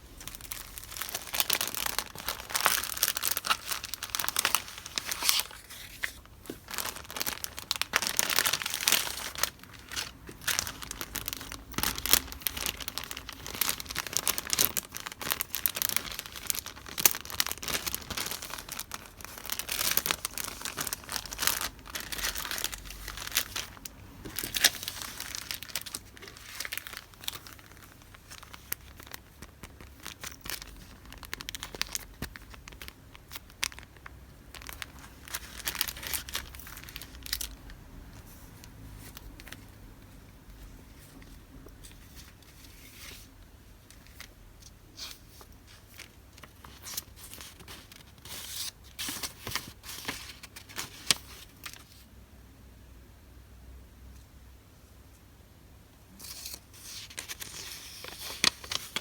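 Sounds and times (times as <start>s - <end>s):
paper crinkling and rustling: 0.0s - 39.8s, 40.5s - 52.1s, 56.2s - 59.0s.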